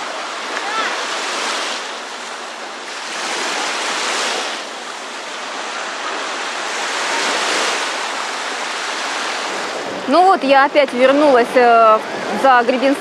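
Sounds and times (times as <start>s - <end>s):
small waves washing on shore: 0.0s - 13.0s.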